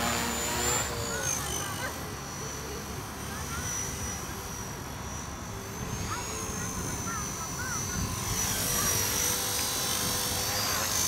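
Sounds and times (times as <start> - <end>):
rc helicopter motor whine: 0.0 - 11.0
steady rushing noise: 0.0 - 11.0.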